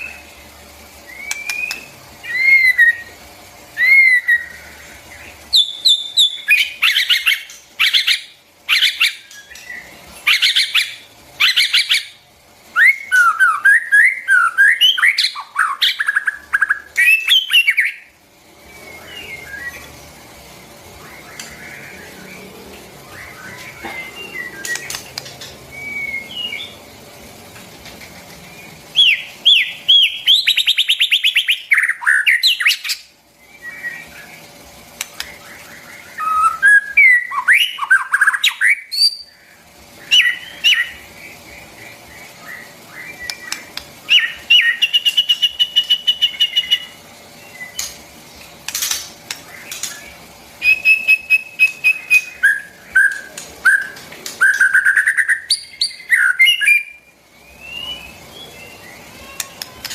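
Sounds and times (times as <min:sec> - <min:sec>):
songbird whistling and trilling: 0:01.0 - 0:03.2, 0:03.8 - 0:19.9, 0:23.0 - 0:26.8, 0:28.5 - 0:34.4, 0:35.2 - 0:48.0, 0:49.5 - 0:59.5.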